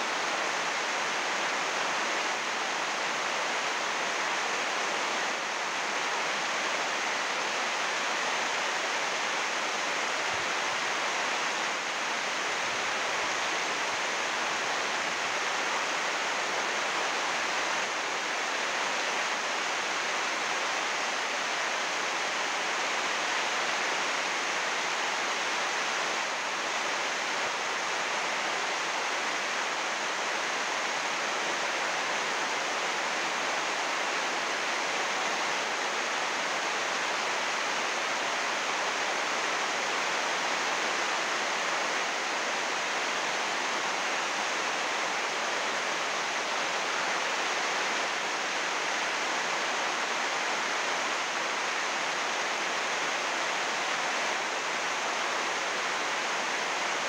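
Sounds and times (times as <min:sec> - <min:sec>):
heavy rain on plastic roofing: 0:00.0 - 0:57.0.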